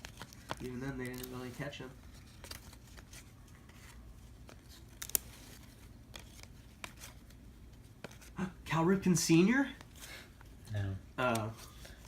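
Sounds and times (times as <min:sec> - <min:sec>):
cards clicking and rustling: 0:00.0 - 0:08.4, 0:09.3 - 0:12.0.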